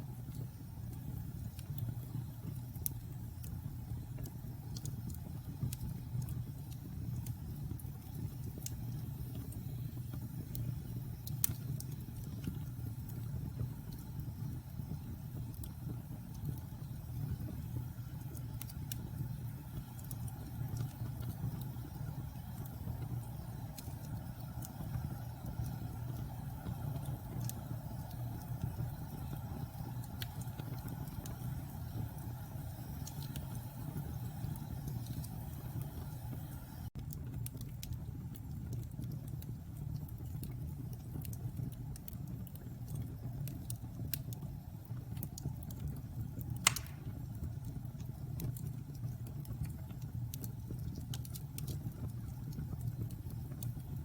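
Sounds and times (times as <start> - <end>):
burning logs crackling and popping: 0.0 - 54.0
fire flames rumbling: 0.0 - 54.0.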